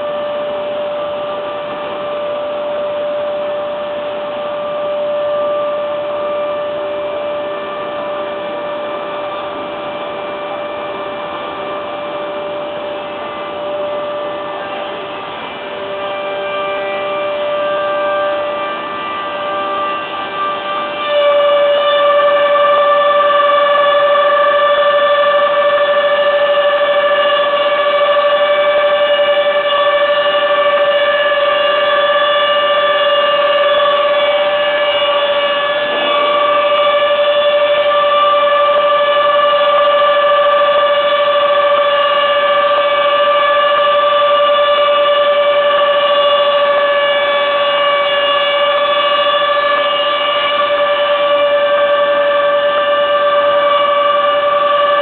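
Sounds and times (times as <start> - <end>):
woodworking machine whine: 0.0 - 55.0.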